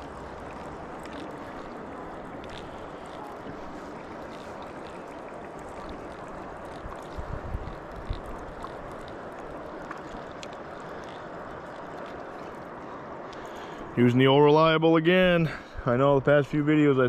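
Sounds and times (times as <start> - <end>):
river water rushing: 0.0 - 14.8.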